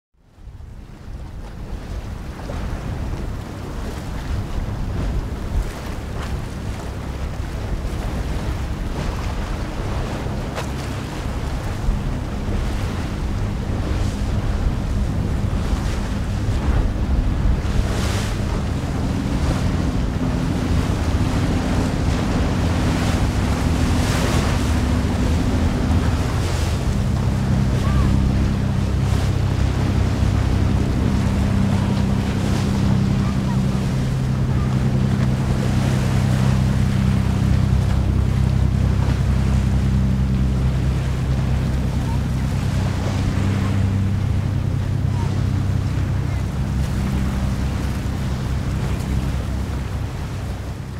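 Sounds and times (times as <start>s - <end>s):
waves splashing against hull: 0.3s - 50.9s
wind buffeting microphone: 0.4s - 50.9s
boat diesel engines droning: 0.5s - 50.9s.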